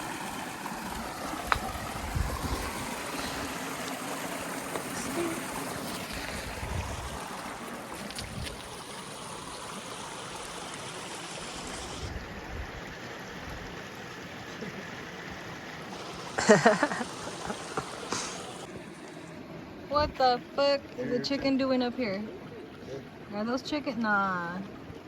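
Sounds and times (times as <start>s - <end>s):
creek flowing: 0.0s - 25.0s.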